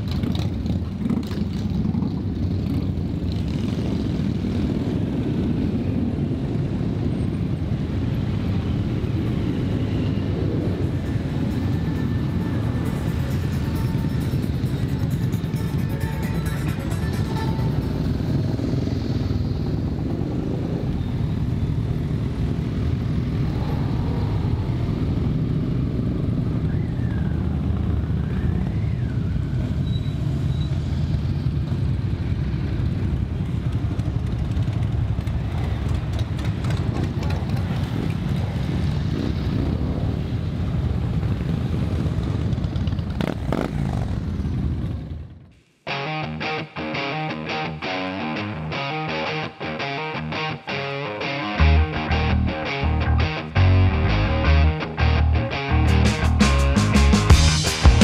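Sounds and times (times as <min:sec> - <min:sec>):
motorcycle engines droning: 0:00.0 - 0:58.0.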